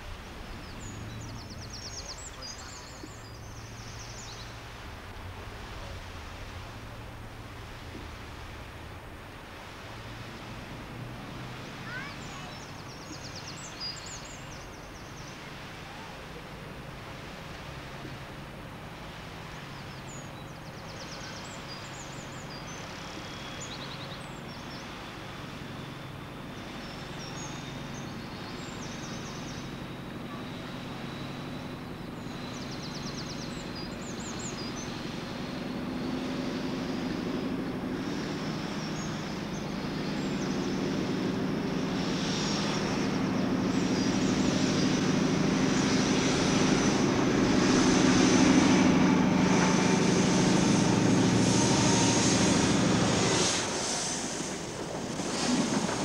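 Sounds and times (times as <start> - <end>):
diesel train engine drone: 0.0 - 56.0.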